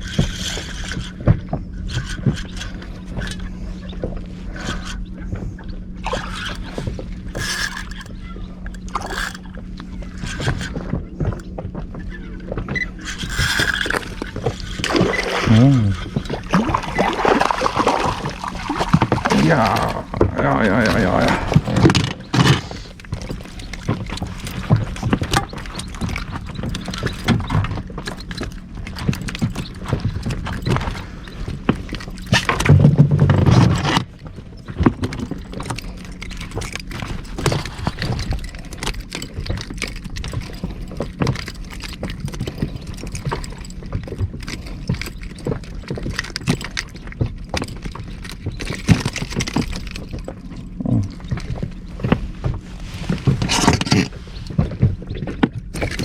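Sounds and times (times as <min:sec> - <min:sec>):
knocks and handling noise on boat: 0:00.0 - 0:56.0.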